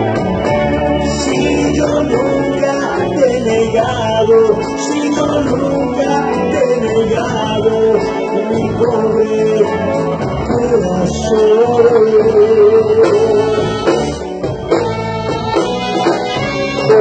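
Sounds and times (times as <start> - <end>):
live band playing: 0.0 - 17.0
man singing: 1.0 - 14.3, 16.0 - 17.0.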